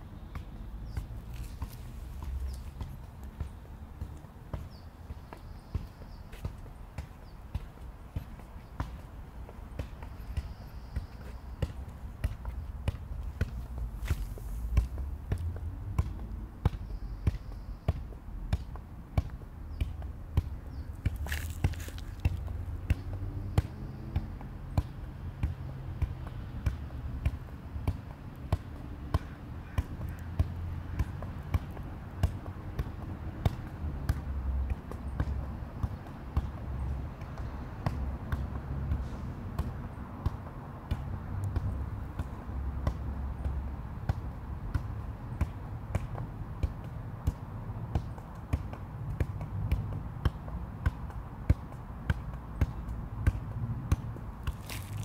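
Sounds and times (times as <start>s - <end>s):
soccer ball kicks thudding: 0.2s - 38.6s, 39.5s - 55.0s.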